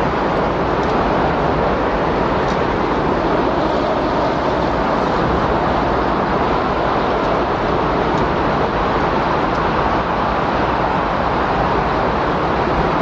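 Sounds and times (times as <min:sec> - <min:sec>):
steady rush of wind: 0:00.0 - 0:13.0.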